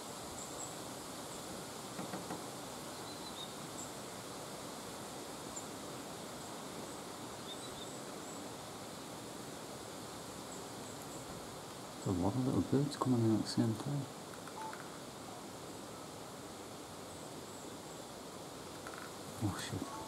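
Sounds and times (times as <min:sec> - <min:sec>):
small birds chirping: 0:00.0 - 0:04.6, 0:05.3 - 0:20.0
steady outdoor hiss: 0:00.0 - 0:20.0.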